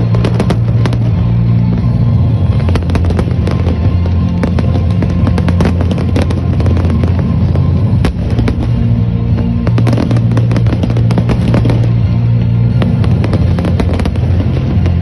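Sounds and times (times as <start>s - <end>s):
fireworks bangs and crackles: 0.0s - 15.0s
music with low bass notes: 0.0s - 15.0s.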